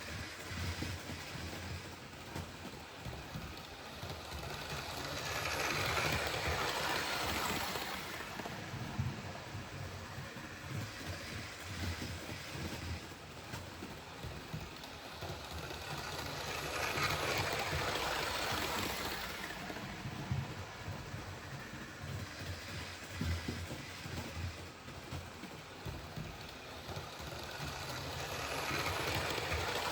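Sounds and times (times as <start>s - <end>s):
model train rumbling on track: 0.0s - 29.9s.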